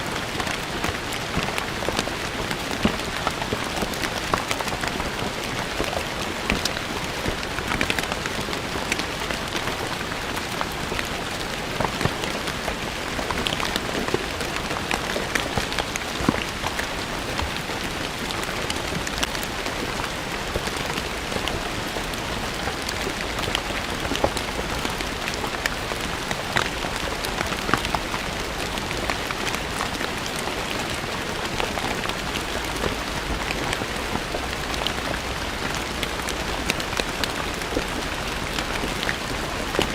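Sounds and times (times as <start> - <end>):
rain on stone paving: 0.0 - 39.9.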